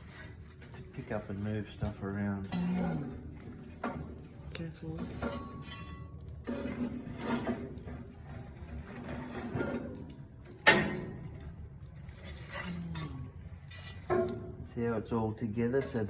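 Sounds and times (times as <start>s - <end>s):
metal tongs clinking and scraping: 0.0s - 16.0s.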